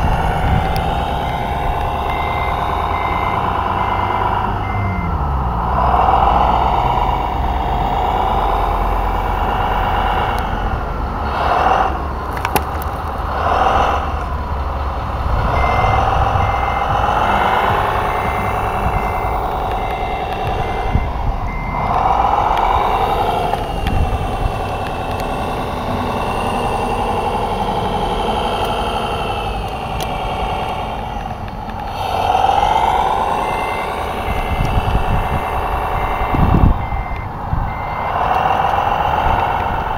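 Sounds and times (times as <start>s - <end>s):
sharp clicks: 0.0s - 5.0s, 11.5s - 39.9s
high reversing beeper: 0.0s - 11.9s, 13.3s - 31.1s, 31.9s - 39.9s
model trucks whining drone: 0.0s - 39.9s.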